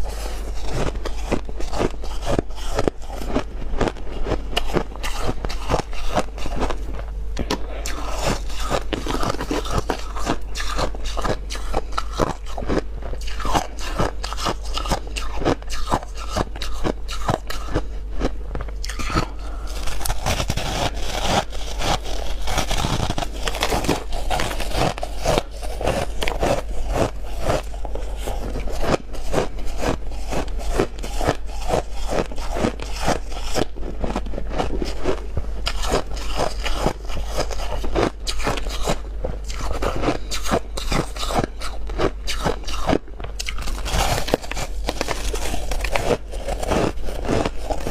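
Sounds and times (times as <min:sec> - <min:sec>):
chewing crunchy frost: 0:00.0 - 0:47.9.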